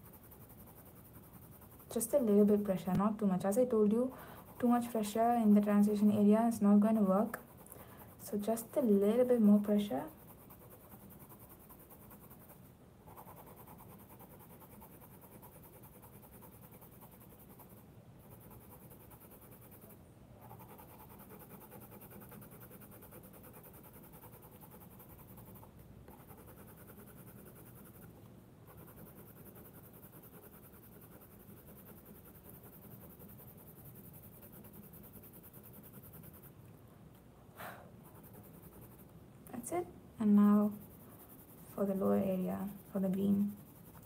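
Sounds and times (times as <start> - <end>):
colored pencil scratching on paper: 0.0 - 36.6, 38.0 - 44.0.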